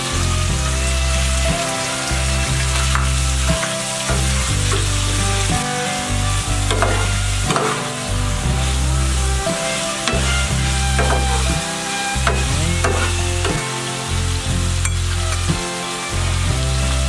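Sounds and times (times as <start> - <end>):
chicken sizzling in a grill pan: 0.0 - 17.0
metal spatula scraping a pan: 0.7 - 16.2.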